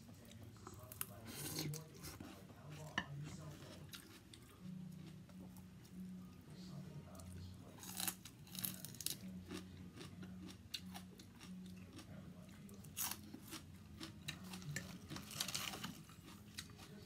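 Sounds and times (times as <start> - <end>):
crunching and chewing vegetable: 0.0 - 17.0
faint low hum: 0.0 - 17.0.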